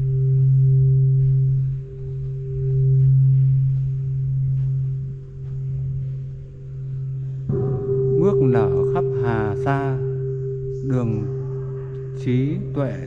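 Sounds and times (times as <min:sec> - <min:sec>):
low ringing drone: 0:00.0 - 0:13.0.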